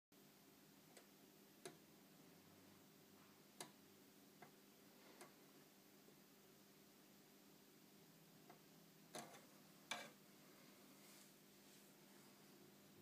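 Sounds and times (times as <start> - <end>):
faint low hum: 0.2 - 13.0.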